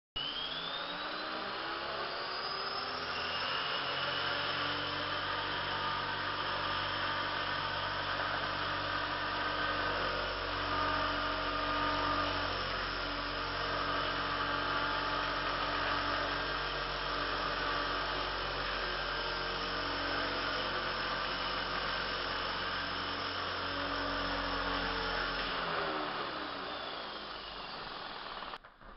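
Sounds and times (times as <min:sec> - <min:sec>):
model helicopter rotor whirring: 0:00.2 - 0:28.9.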